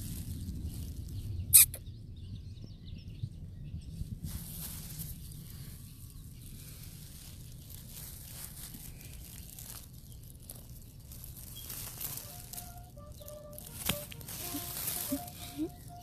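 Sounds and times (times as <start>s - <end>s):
rustling in grass: 0.0s - 1.6s, 3.9s - 16.0s.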